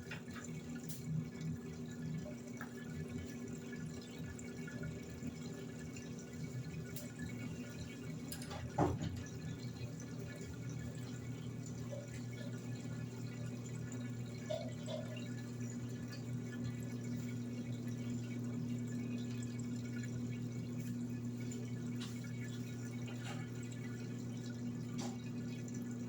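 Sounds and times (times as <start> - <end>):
low steady hum: 0.0 - 26.0
washing machine filling with water: 0.0 - 26.0.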